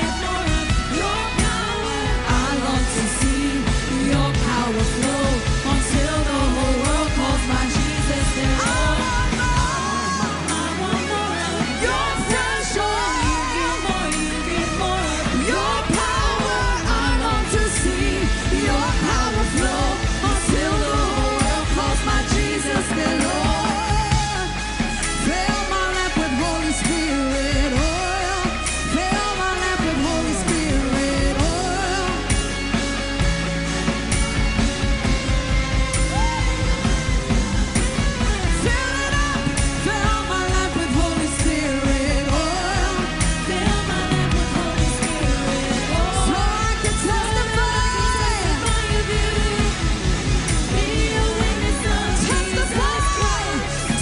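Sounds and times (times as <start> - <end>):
person singing: 0.0 - 32.8, 38.4 - 54.0
worship band music: 0.0 - 54.0.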